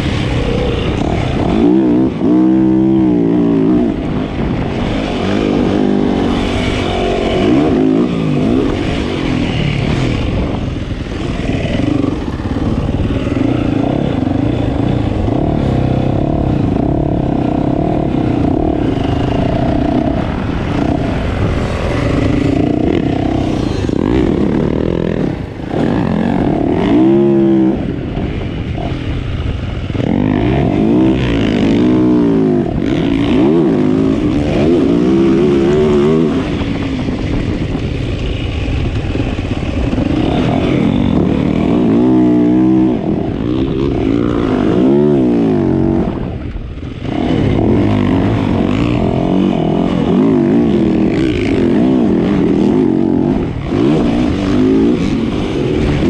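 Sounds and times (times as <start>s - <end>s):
motocross bikes revving: 0.0s - 56.0s.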